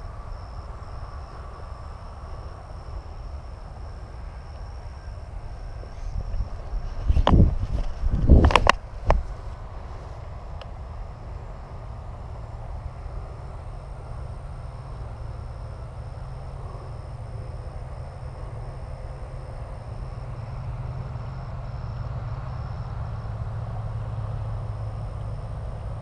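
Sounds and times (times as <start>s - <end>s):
insect chirping: 0.0s - 26.0s
thin high whine: 0.0s - 26.0s.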